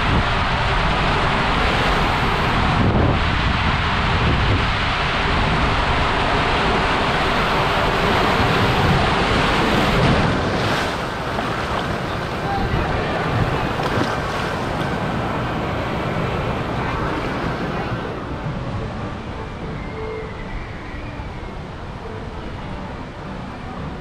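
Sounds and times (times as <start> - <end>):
water rushing in slide tube: 0.0 - 24.0.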